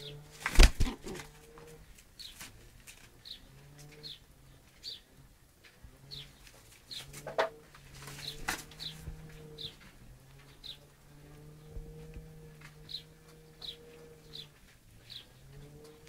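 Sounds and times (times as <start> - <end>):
pigeons cooing: 0.0 - 2.3, 3.2 - 16.0.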